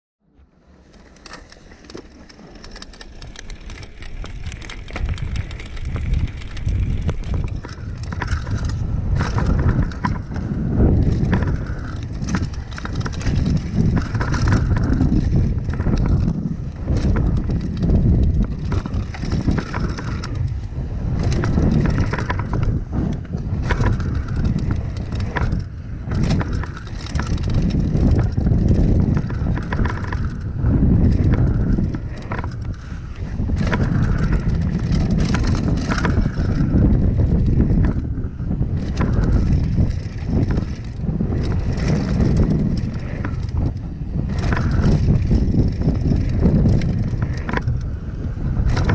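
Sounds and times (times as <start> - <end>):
bike rattling and knocking: 0.8 - 48.9
wind on microphone: 2.7 - 48.9.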